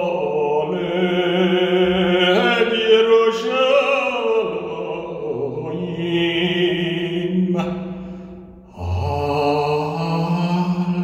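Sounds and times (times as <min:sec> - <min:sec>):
chant-like singing: 0:00.0 - 0:11.0.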